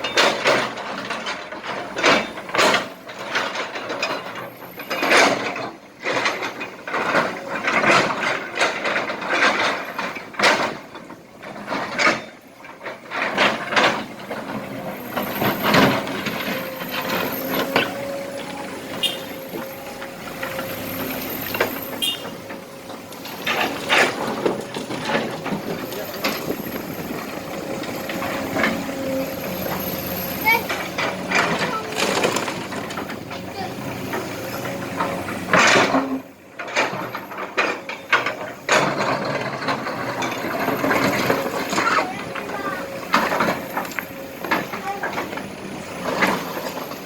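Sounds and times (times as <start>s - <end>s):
excavator running: 0.0s - 47.0s.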